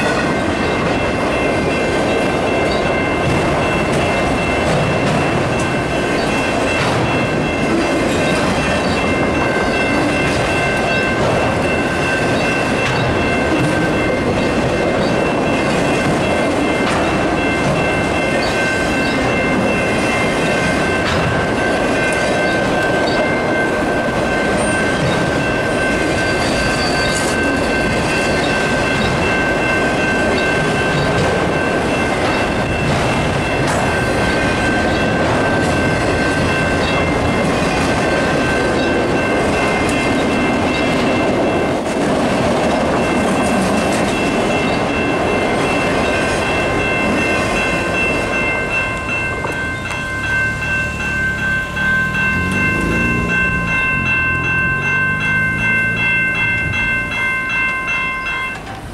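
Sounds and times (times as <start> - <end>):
level crossing bell ringing: 0.0 - 58.9
train wheels clattering on rails: 0.0 - 58.9.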